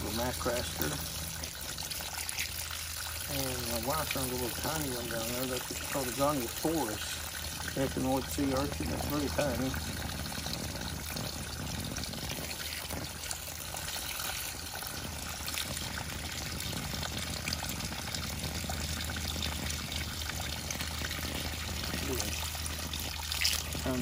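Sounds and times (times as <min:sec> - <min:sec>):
water running: 0:00.0 - 0:24.0.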